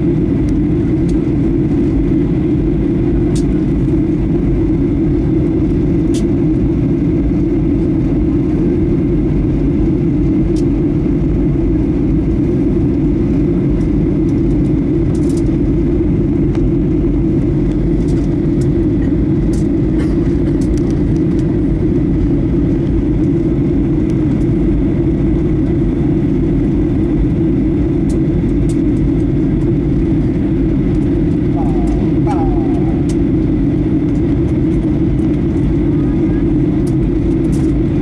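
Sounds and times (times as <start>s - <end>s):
airflow over fuselage: 0.0s - 38.0s
airplane cabin engine drone: 0.0s - 38.0s.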